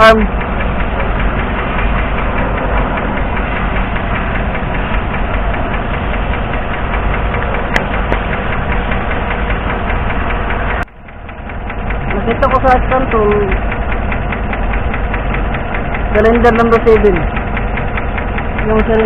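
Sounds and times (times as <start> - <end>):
engine idling: 0.0 - 19.0
rapid ticking valvetrain knock: 0.0 - 19.0.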